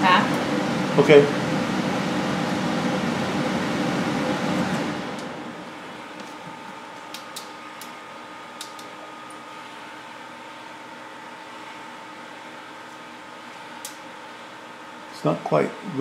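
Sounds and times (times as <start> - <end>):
coffee roaster hum: 0.0 - 16.0
range hood fan spinning down: 0.0 - 16.0.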